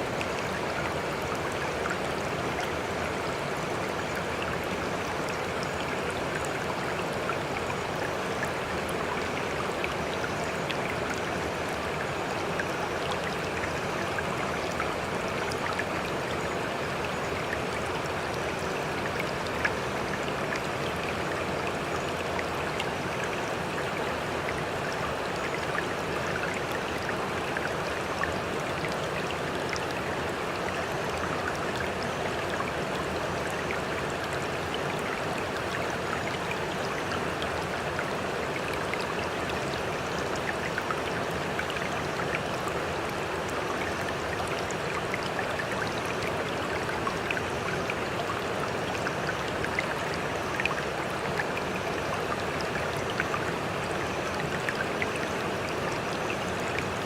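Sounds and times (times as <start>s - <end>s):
water drips and trickles: 0.0s - 57.0s.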